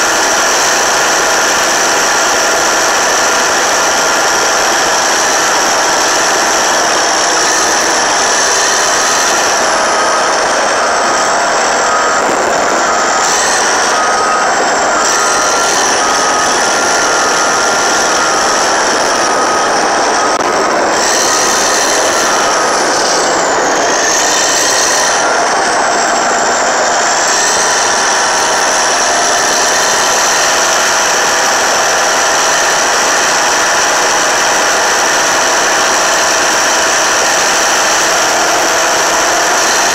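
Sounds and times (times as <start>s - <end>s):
bulldozer diesel engine under load: 0.0s - 39.9s
dozer pushing soil and brush: 0.0s - 39.9s.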